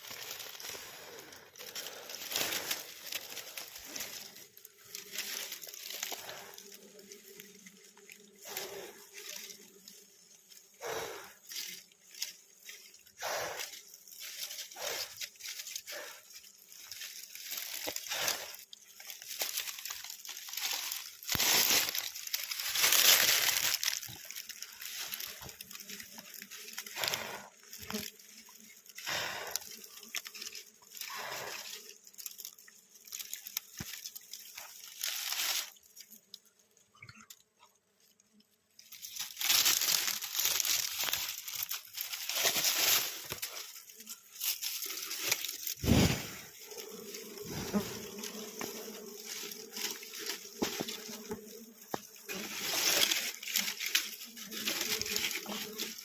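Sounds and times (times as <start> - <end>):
honeycomb tearing and crunching: 0.0 - 56.0.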